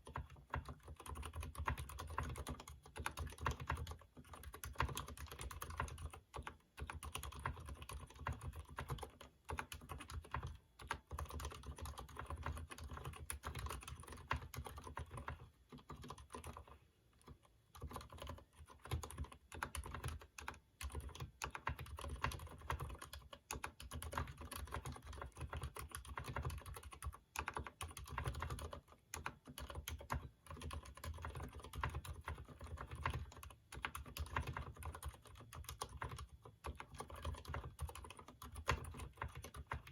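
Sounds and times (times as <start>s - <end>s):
typing on a keyboard: 0.0s - 39.9s.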